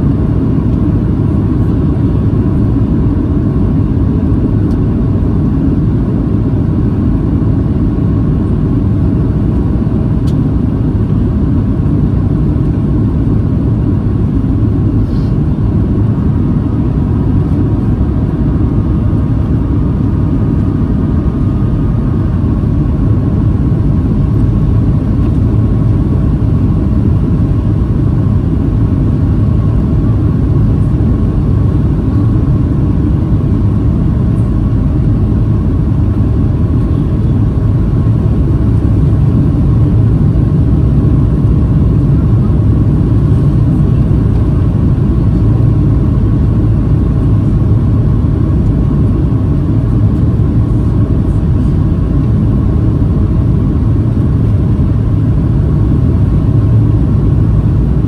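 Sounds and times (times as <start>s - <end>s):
airplane cabin engine roar: 0.0s - 58.0s
faint steady whine: 0.0s - 58.0s.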